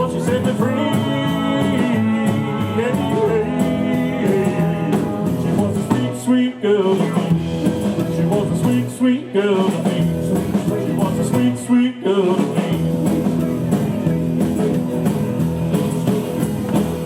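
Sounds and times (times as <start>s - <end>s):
electric guitar: 0.0s - 17.0s
rock band playing live: 0.0s - 17.0s.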